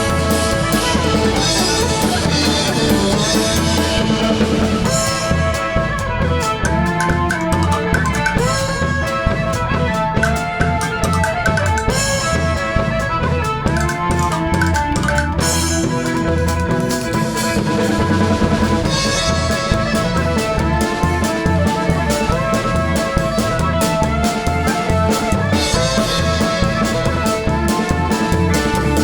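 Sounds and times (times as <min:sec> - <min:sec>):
drum kit steady beat: 0:00.0 - 0:29.0
live folk band playing: 0:00.0 - 0:29.0.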